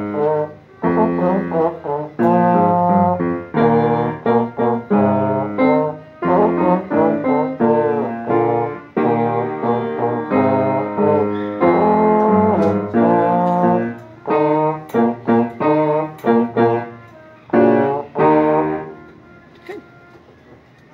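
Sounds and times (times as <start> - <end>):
trombone melody: 0.0 - 20.2
musical accompaniment: 0.0 - 20.9.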